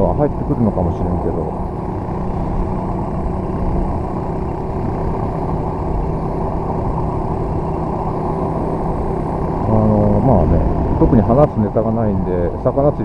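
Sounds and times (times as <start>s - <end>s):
minibike engine humming: 0.0s - 13.0s
wind rushing on microphone: 1.6s - 13.0s.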